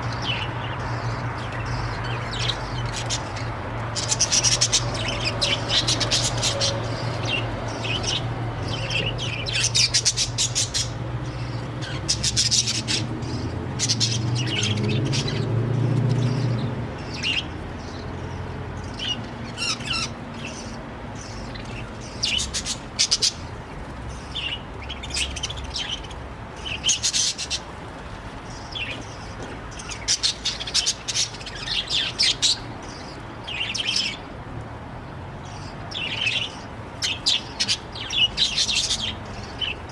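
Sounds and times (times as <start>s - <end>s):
budgerigars chirping: 0.0s - 23.5s, 24.1s - 27.7s, 28.5s - 34.3s, 35.4s - 39.9s.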